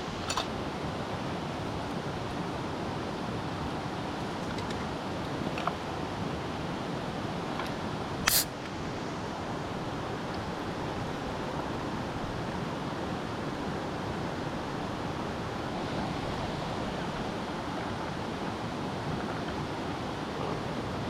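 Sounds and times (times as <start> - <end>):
mountain stream rushing: 0.0 - 21.0.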